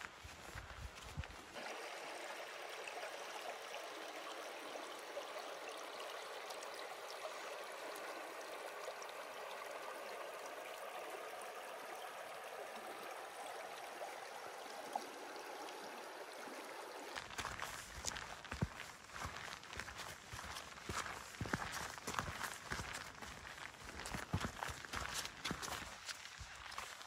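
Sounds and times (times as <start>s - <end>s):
river rippling over rocks: 0.0s - 27.0s.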